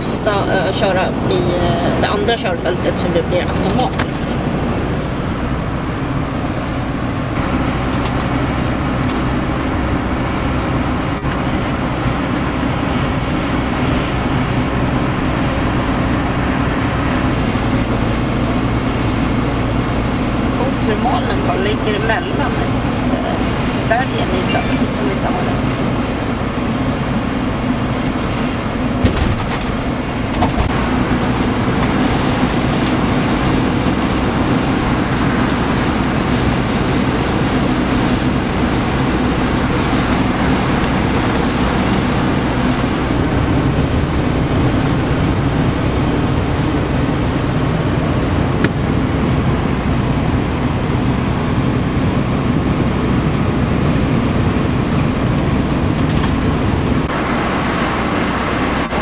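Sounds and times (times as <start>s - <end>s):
road and engine noise: 0.0s - 59.0s.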